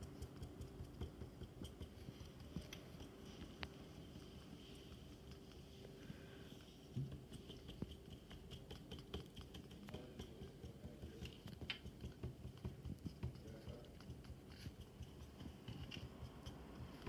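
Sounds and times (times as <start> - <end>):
marker tapping on paper: 0.0 - 3.7, 6.9 - 17.0.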